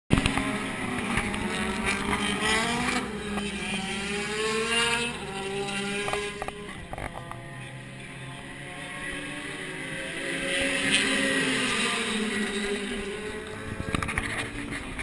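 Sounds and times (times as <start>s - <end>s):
race car engine accelerating: 0.2s - 15.0s.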